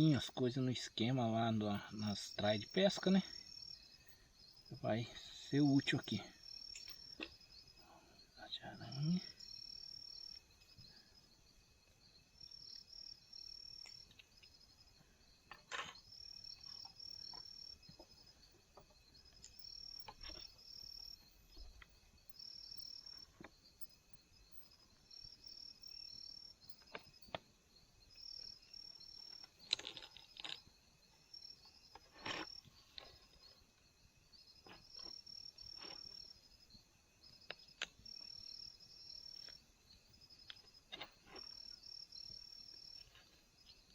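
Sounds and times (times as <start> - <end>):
high-pitched insect chirping: 0.0 - 43.9.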